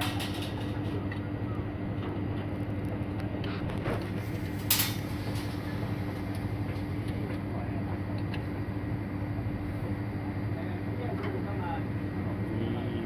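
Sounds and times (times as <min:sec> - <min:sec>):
low rumble with hum: 0:00.0 - 0:13.0.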